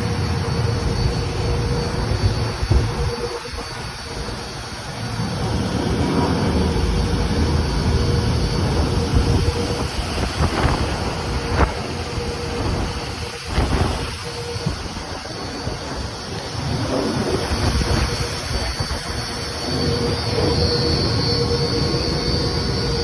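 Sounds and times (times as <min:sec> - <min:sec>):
low fan rumble: 0:00.0 - 0:23.0.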